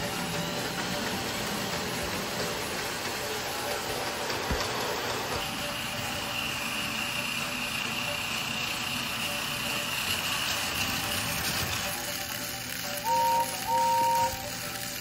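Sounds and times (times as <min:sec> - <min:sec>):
toy train motor whine: 0:00.0 - 0:15.0
toy train running on plastic track: 0:00.0 - 0:15.0.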